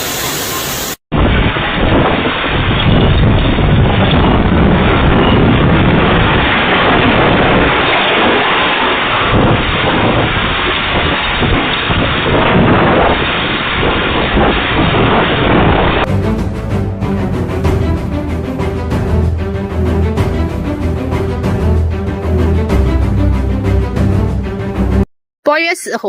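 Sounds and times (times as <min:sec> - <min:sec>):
strong wind on microphone: 0:00.0 - 0:24.6
heavy rain: 0:00.0 - 0:25.0.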